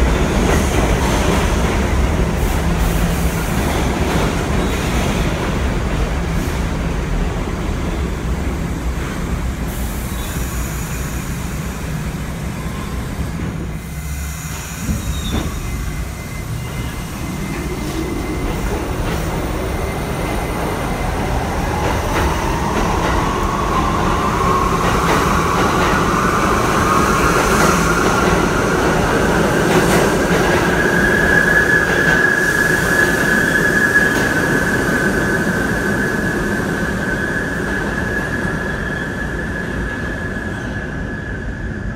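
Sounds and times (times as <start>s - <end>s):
wheels rumbling on rail: 0.0s - 41.9s.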